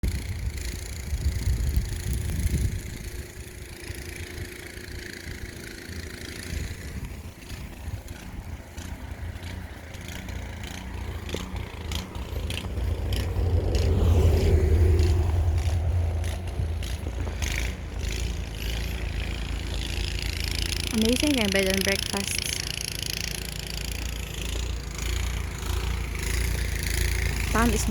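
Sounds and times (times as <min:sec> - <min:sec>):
snowblower engine running: 0:00.0 - 0:27.9.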